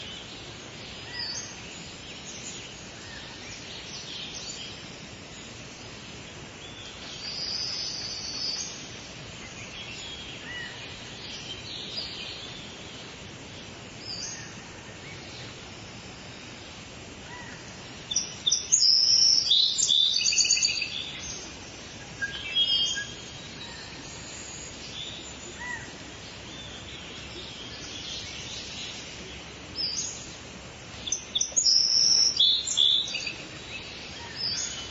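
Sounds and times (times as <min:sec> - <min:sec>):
background hiss: 0:00.0 - 0:34.9
songbirds chirping and singing: 0:00.0 - 0:34.9.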